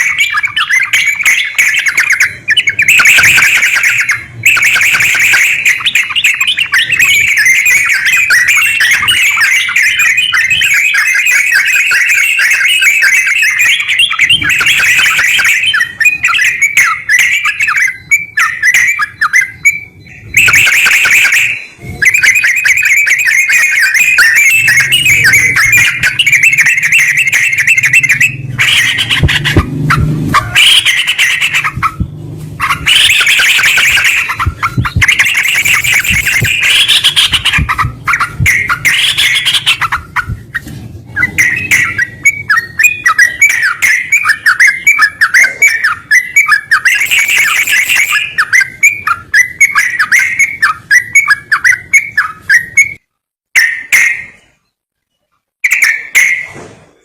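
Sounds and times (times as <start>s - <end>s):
bird singing chattering phrases: 0.0s - 53.0s.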